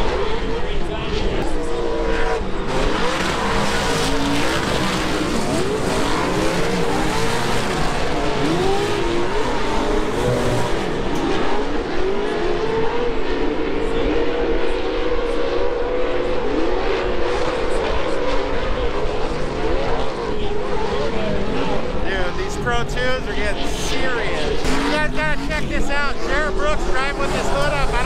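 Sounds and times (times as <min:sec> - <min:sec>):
race engines revving: 0:00.0 - 0:28.0.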